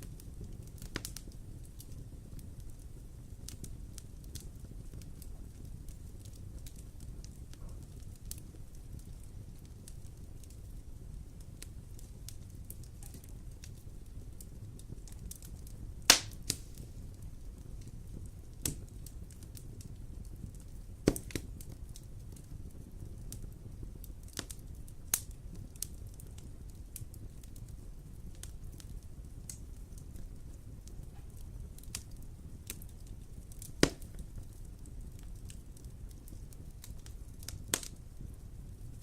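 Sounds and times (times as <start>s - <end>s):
low rumble of flames: 0.0s - 39.0s
wood fire popping and snapping: 0.0s - 39.0s.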